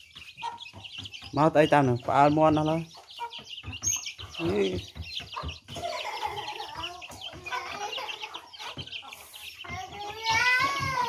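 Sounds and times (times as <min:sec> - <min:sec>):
chicks peeping: 0:00.0 - 0:11.0
hens clucking: 0:00.0 - 0:11.0.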